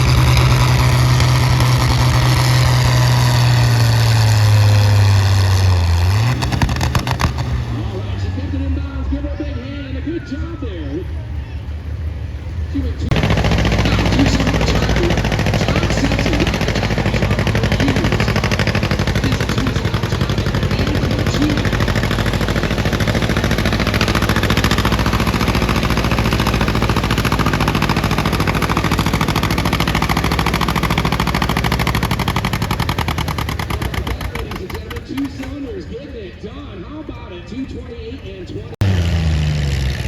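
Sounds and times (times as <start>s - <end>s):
tractor engine running hard: 0.0s - 40.0s.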